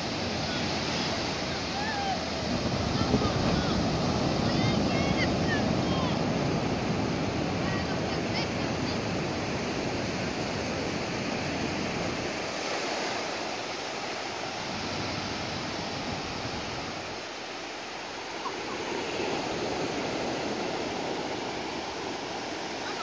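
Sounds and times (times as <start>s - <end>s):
surf breaking on a beach: 0.0s - 23.0s.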